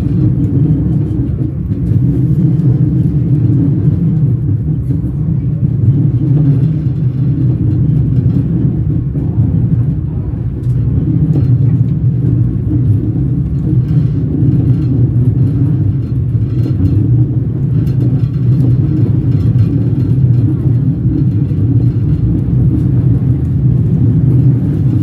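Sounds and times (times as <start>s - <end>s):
faint rail clicks: 0.0s - 25.0s
train wheels rumbling on rails: 0.0s - 25.0s.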